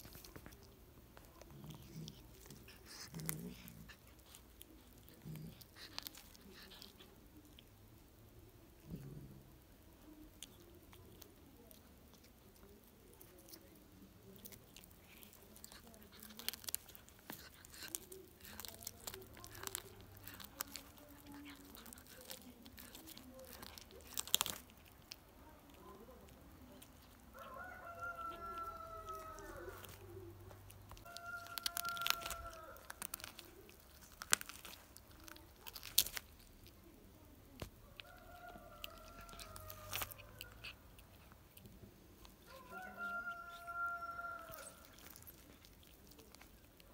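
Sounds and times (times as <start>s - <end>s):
cat chewing and crunching: 0.0s - 46.9s.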